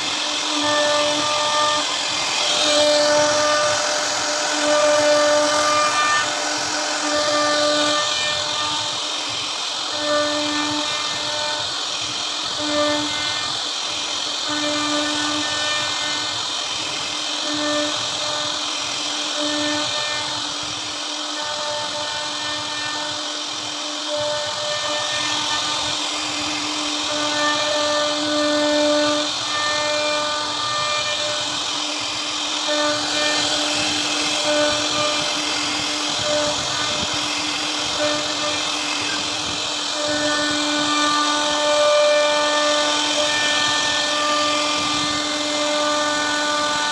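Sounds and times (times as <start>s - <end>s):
router spindle whine: 0.0s - 46.9s
wood cutting hiss: 0.0s - 46.9s.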